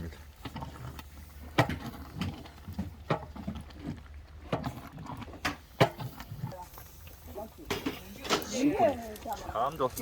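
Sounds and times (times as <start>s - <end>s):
fire popping: 0.0s - 10.0s
porridge boiling hum: 0.0s - 10.0s.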